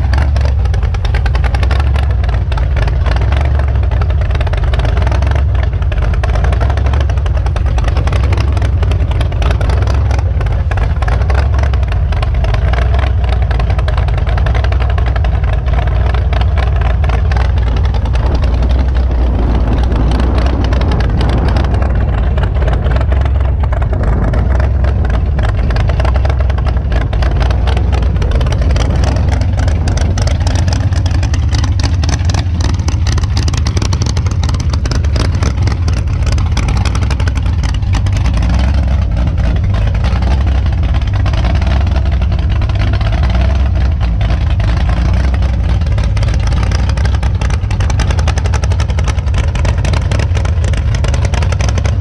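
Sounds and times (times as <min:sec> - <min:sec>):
drag car engine running: 0:00.0 - 0:52.0.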